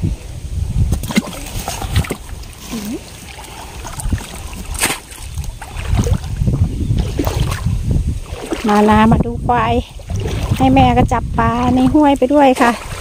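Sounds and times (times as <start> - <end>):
wind on microphone: 0.0 - 13.0
water sloshing and splashing: 0.9 - 13.0.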